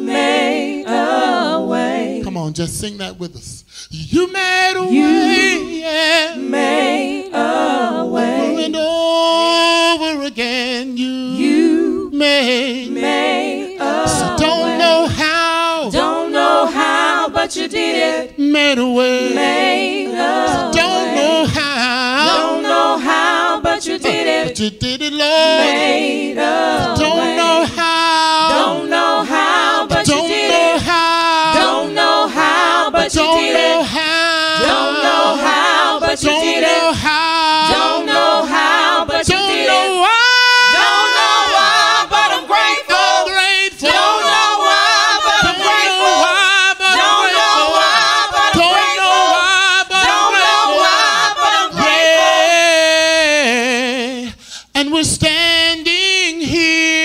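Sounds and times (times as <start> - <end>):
choir singing a cappella: 0.0 - 2.6, 4.2 - 54.4.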